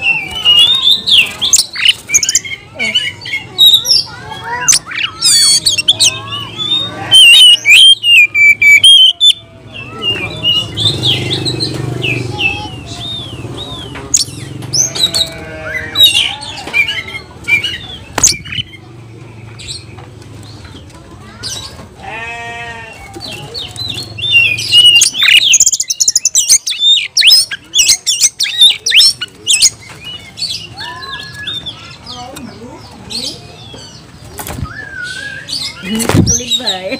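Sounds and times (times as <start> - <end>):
bird singing: 0.0 - 36.9.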